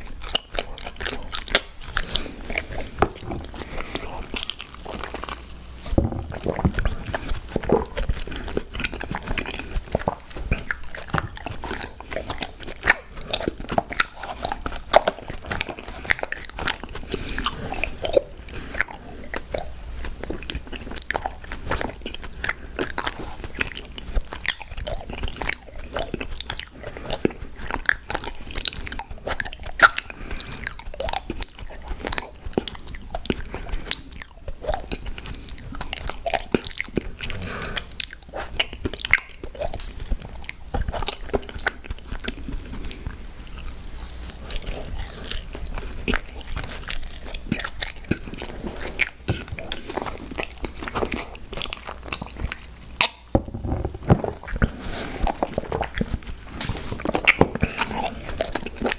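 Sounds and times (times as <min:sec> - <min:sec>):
person chewing crunchy cookies: 0:00.0 - 0:58.9.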